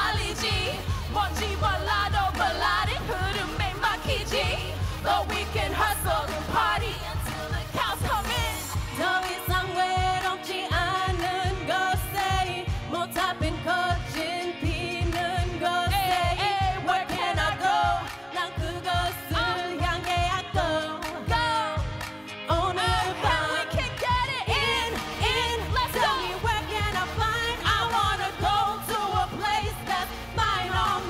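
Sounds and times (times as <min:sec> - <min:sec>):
pop backing track with bass beat: 0:00.0 - 0:31.0
woman singing into microphone: 0:00.0 - 0:31.0.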